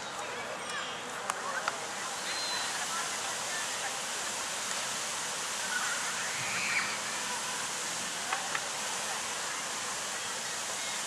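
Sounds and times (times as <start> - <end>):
faint distant voices: 0.0 - 11.0
outdoor hiss: 0.0 - 11.0.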